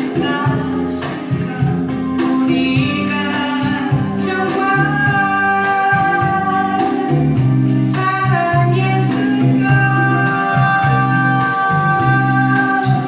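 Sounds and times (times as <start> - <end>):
bass line: 0.0 - 13.0
guitar: 0.0 - 13.0
person singing slow ballad: 0.0 - 13.0.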